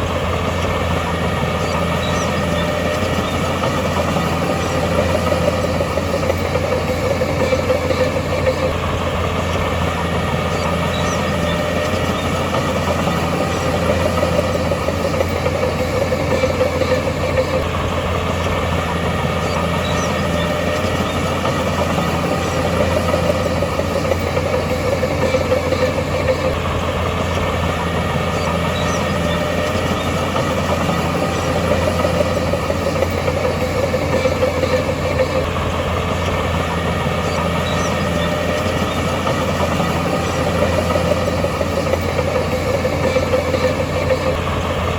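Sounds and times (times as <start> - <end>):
heavy machinery diesel engine: 0.0 - 44.9.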